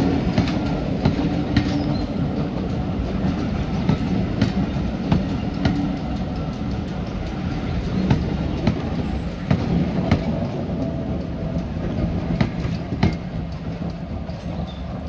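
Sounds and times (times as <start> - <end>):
railway coaches rumbling past: 0.0 - 15.0
wheels clacking over rail joint: 0.0 - 15.0.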